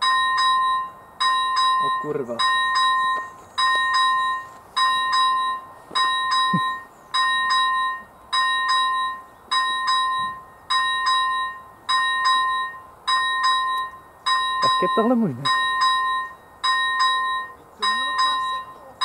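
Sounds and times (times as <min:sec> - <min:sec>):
level crossing bell dinging: 0:00.0 - 0:19.0.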